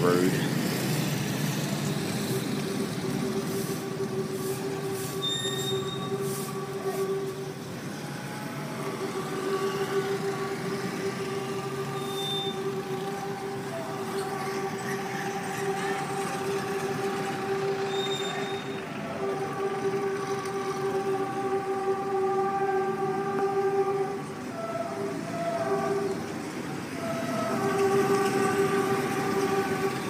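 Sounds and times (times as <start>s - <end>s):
train rumbling past: 0.0s - 30.0s
high whine with overtones: 1.2s - 30.0s.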